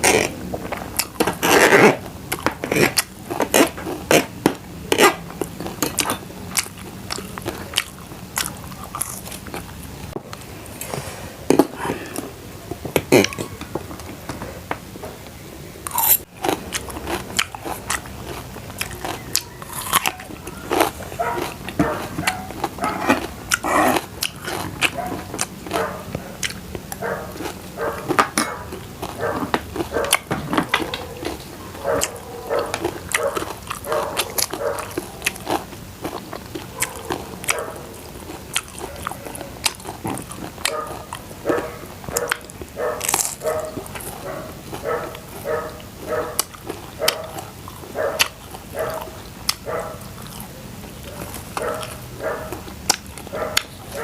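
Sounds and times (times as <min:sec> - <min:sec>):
person chewing crunchy food: 0:00.0 - 0:14.4, 0:15.8 - 0:54.0.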